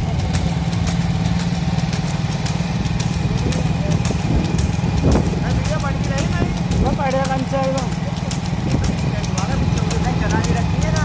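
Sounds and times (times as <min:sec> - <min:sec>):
motorcycle engine droning: 0:00.0 - 0:11.0
sharp clicks and knocks: 0:00.0 - 0:11.0.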